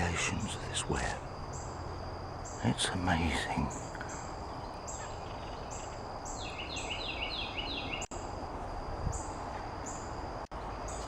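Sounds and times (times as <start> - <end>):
insects calling: 0.0 - 11.0.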